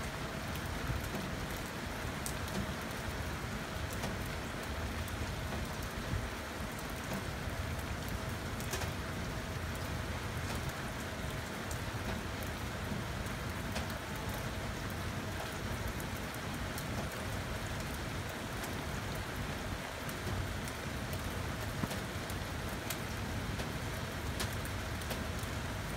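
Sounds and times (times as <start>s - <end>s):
heavy rain falling: 0.0s - 25.9s
raindrops ticking on surfaces: 0.0s - 25.9s.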